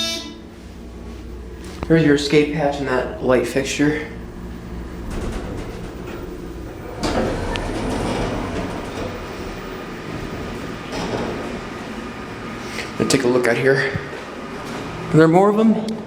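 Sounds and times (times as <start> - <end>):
hydraulic elevator hum and rumble: 0.0 - 16.0.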